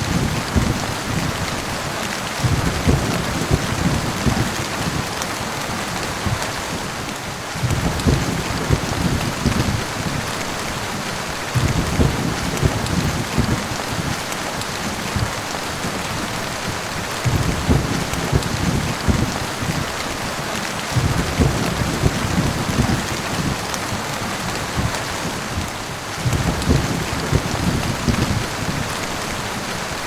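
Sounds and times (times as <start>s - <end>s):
low rolling thunder: 0.0s - 29.6s
heavy rain: 0.0s - 30.0s.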